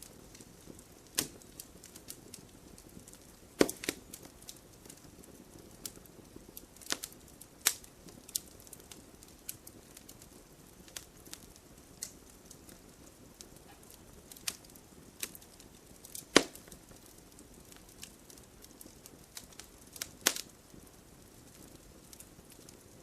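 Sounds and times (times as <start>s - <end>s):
fire hissing: 0.0s - 23.0s
wood fire crackling and popping: 0.0s - 23.0s.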